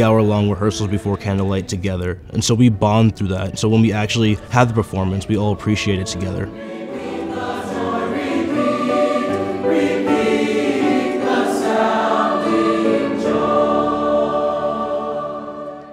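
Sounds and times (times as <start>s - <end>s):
choir singing sustained chords: 0.0s - 15.9s.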